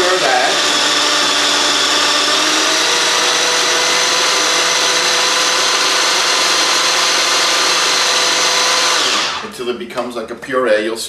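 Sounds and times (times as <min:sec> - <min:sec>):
food processor running: 0:00.0 - 0:09.5.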